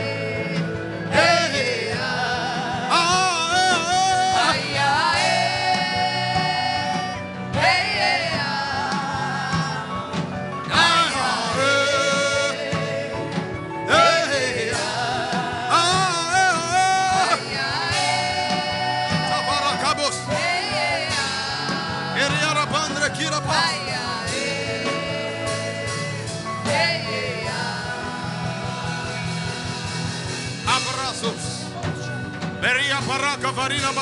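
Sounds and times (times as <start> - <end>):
gospel music accompaniment: 0.0 - 34.0.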